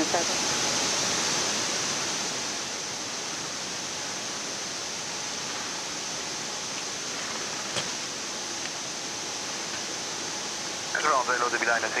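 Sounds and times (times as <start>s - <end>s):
aircraft cockpit background hiss: 0.9s - 12.0s.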